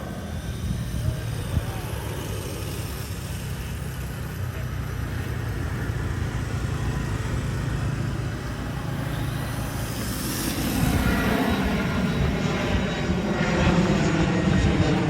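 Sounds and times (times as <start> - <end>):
small petrol engine running: 0.0 - 12.2.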